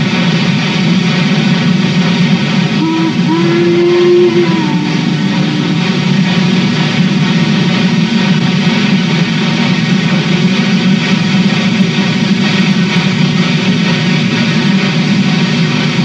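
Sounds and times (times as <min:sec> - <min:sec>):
steam locomotive rumble: 0:00.0 - 0:16.0.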